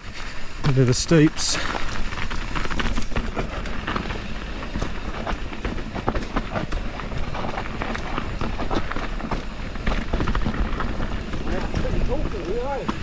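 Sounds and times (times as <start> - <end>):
bike rattling over rough ground: 0.0 - 13.0.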